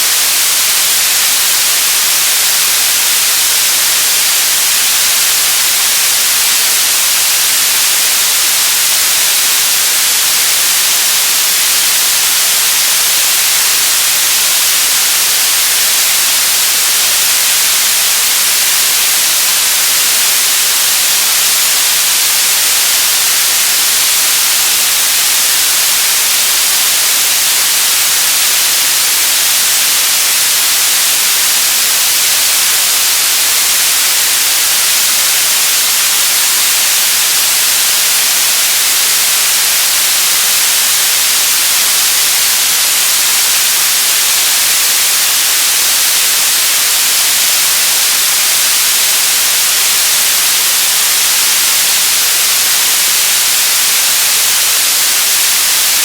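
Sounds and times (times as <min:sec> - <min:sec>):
television static hiss: 0:00.0 - 0:56.0.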